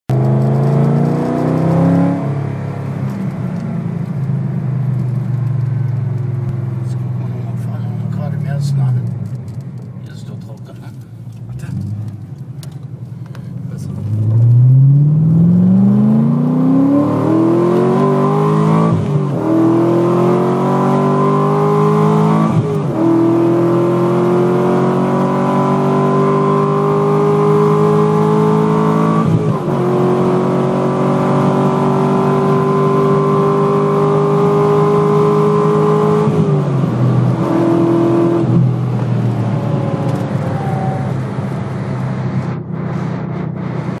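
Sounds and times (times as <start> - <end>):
car engine at full throttle: 0.1 - 44.0.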